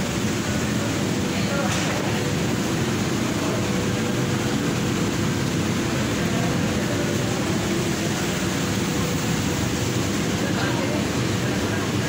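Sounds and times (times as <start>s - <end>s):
ventilation rumble in hall: 0.0s - 12.0s.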